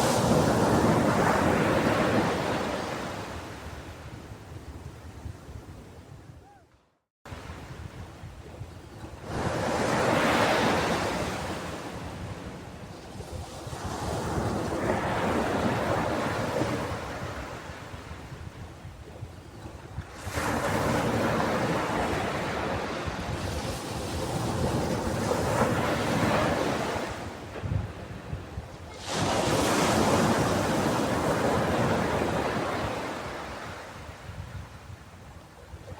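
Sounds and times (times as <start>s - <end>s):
waves breaking and washing in: 0.0s - 6.3s, 7.3s - 35.9s.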